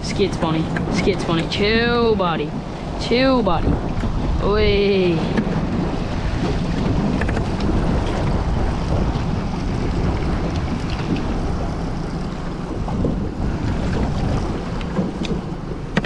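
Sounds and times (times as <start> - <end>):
water washing around boat: 0.0 - 16.0
wind buffeting microphone: 0.0 - 16.0.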